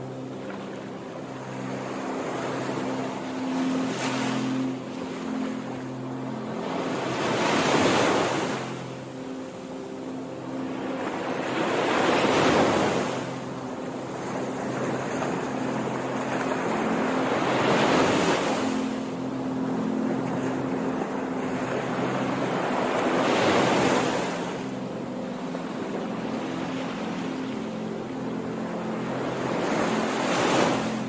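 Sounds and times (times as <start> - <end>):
ocean waves washing in: 0.0 - 31.0.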